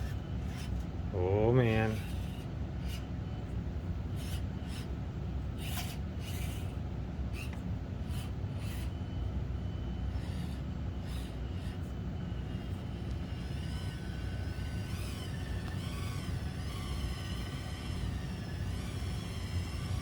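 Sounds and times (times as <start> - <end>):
small electric motor whirring: 0.0 - 20.0
steady low hum: 0.0 - 20.0.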